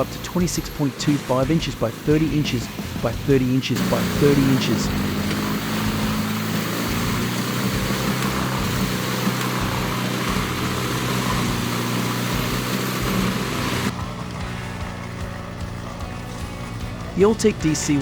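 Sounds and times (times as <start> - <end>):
broad rushing noise: 0.0 - 18.0
tree chipper engine hum: 0.0 - 18.0.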